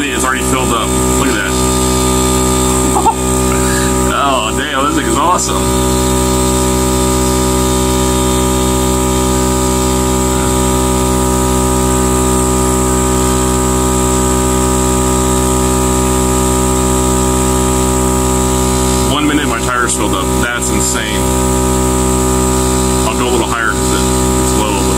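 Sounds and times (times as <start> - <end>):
air compressor running: 0.0 - 24.9.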